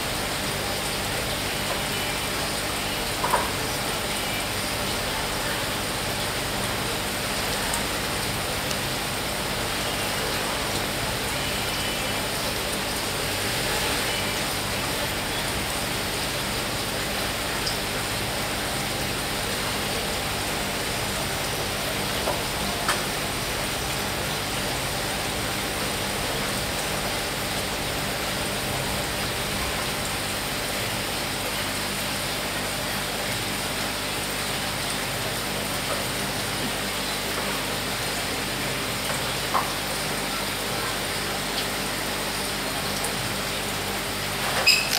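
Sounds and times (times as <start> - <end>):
aquarium filter water running: 0.0 - 44.9.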